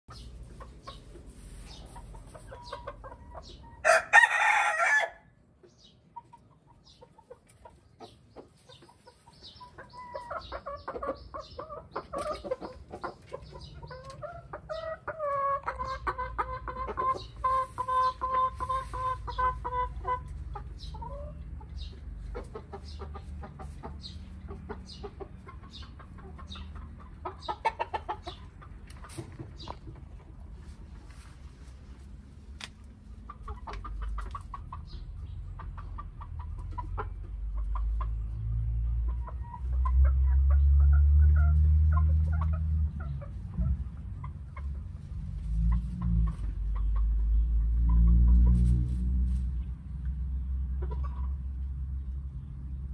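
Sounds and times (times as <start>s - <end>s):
chickens clucking: 0.1s - 52.9s.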